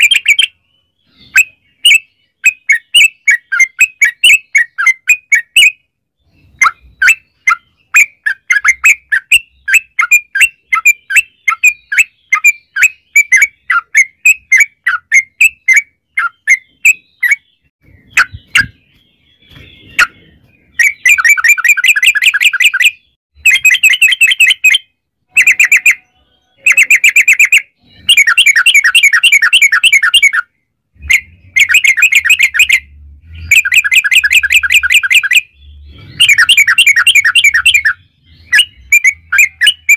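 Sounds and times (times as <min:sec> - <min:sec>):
bulbul chattering and trilling: 0:00.0 - 0:39.9.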